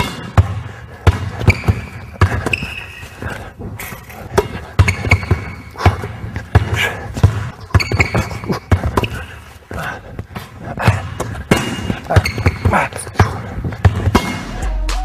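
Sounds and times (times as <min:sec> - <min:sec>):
basketball bouncing on wooden floor: 0:00.0 - 0:14.4
sneaker squeaks: 0:01.1 - 0:09.8, 0:10.8 - 0:14.4.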